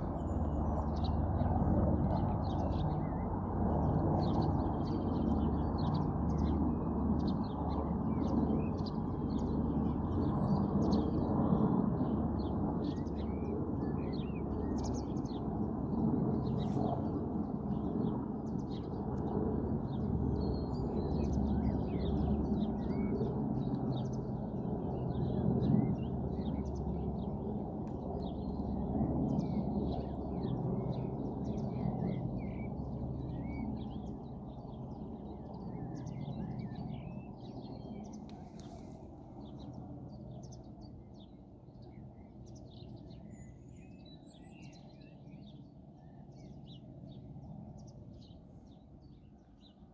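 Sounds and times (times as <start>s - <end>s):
distant helicopter rotor drone: 0.0s - 49.9s
small birds chirping: 0.0s - 49.9s.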